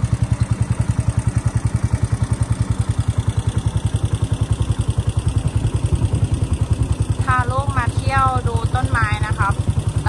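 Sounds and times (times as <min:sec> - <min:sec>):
boat engine pulsing: 0:00.0 - 0:10.0.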